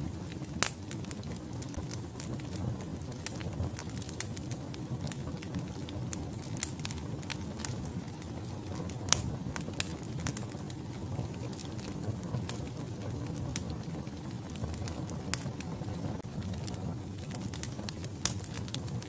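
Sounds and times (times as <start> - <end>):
flames rumbling: 0.0 - 19.0
logs crackling and popping: 0.0 - 19.0.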